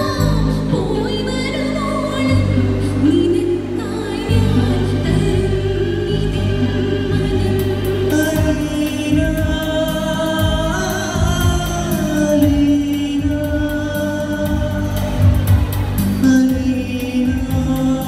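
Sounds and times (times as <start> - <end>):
backing music over loudspeakers: 0.0 - 18.0.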